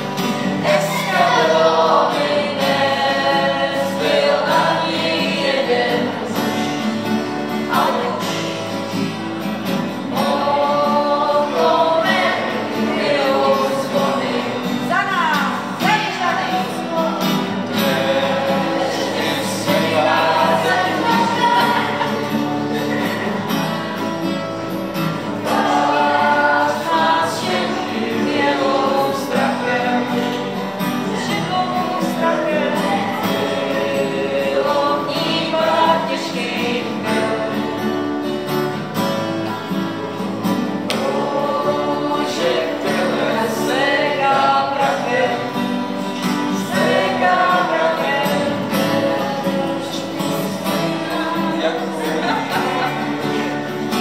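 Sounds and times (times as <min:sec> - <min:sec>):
group singing in unison: 0:00.0 - 0:54.0
strummed acoustic guitars: 0:00.0 - 0:54.0.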